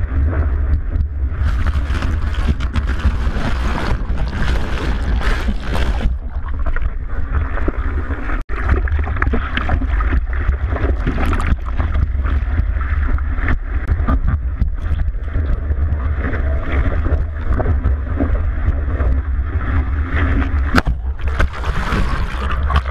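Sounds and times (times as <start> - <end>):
water rushing and splashing: 0.0 - 22.9.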